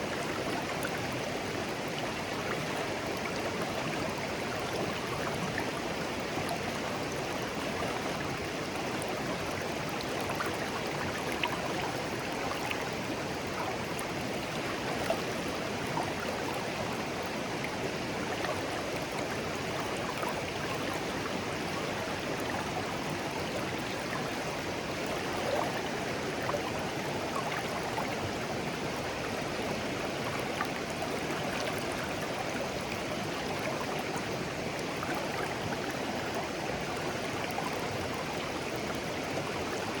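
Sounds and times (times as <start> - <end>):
stream flowing with gurgles: 0.0 - 40.0.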